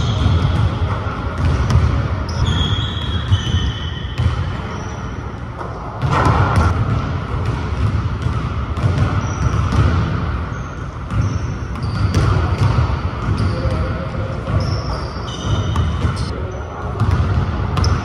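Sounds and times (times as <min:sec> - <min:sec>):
basketball bouncing on hardwood floor: 0:00.0 - 0:04.6, 0:06.0 - 0:10.3, 0:11.1 - 0:16.2, 0:17.0 - 0:18.0
sneaker squeaks: 0:00.0 - 0:06.7, 0:08.2 - 0:18.0.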